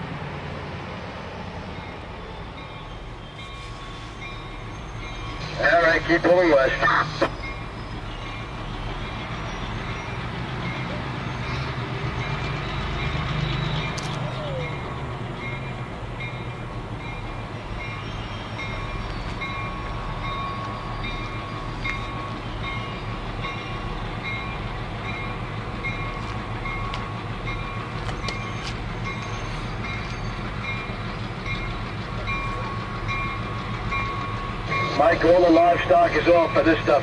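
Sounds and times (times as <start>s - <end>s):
diesel locomotives rumbling: 0.0s - 37.0s.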